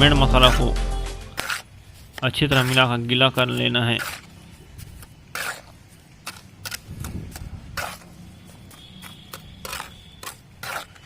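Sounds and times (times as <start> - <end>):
trowel scraping mortar: 0.0 - 11.0.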